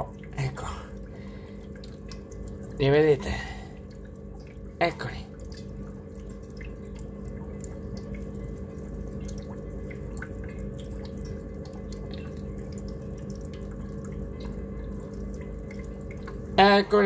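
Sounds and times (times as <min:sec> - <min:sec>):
steady low hum: 0:00.0 - 0:17.0
water dripping and bubbling: 0:00.0 - 0:17.0.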